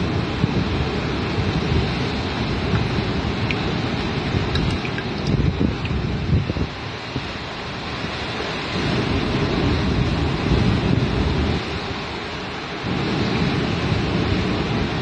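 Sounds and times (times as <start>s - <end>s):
sea surf hiss: 0.0s - 15.0s
wind buffeting microphone: 0.0s - 15.0s.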